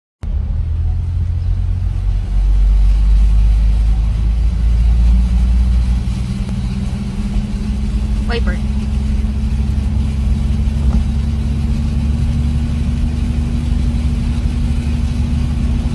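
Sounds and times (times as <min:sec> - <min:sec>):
car driving through water: 0:00.2 - 0:15.9.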